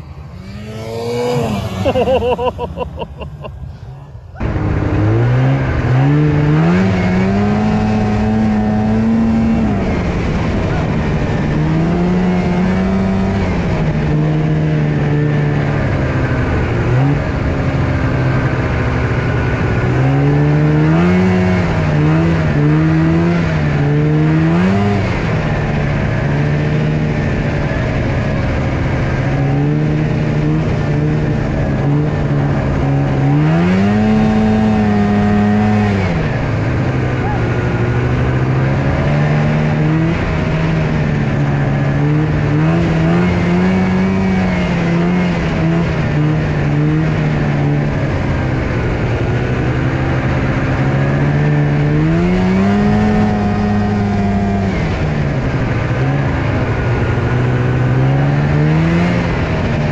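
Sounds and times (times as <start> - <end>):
snowmobile engine revving: 0.0 - 3.8, 4.4 - 59.9.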